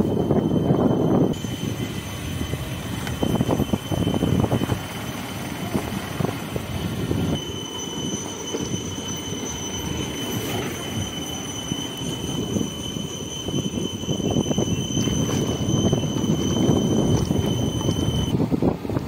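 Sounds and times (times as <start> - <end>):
thin high-pitched tone: 0.0 - 18.3
wind noise: 0.0 - 19.0.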